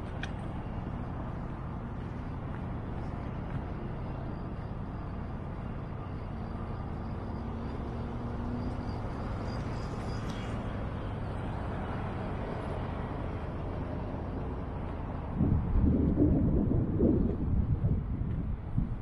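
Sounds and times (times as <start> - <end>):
faint engine hum: 0.0 - 19.0
passing cars: 0.0 - 19.0.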